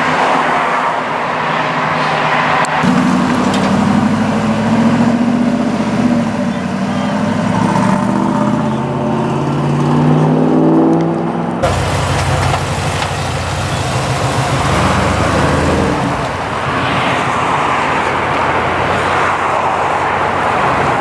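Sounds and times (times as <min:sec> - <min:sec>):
car engine revving: 0:00.9 - 0:21.0.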